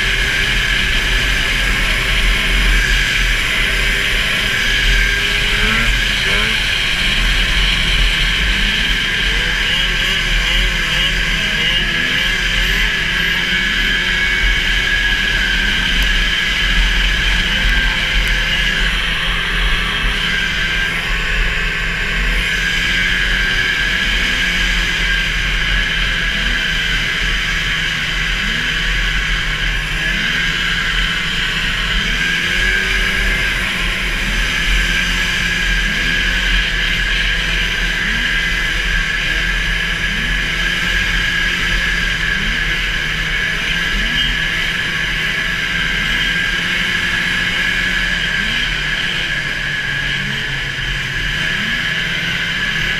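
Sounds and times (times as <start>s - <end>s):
snowmobile engine wailing: 0.0s - 52.9s.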